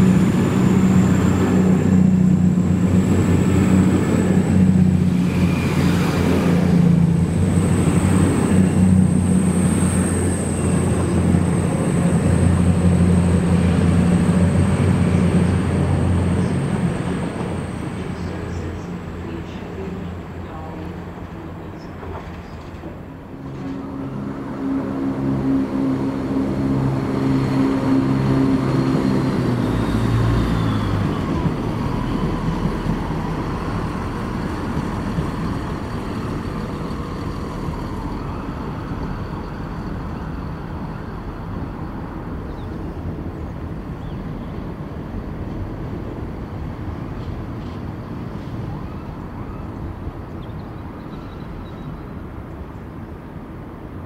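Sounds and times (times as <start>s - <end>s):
diesel train engine: 0.0s - 54.0s
train rumbling on rails: 0.0s - 54.0s.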